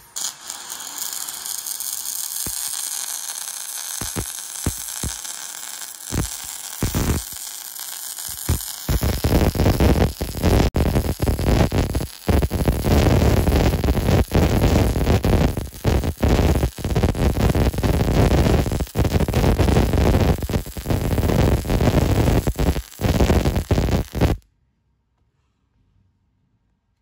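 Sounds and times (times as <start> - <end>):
welding arc hissing: 0.0 - 24.4.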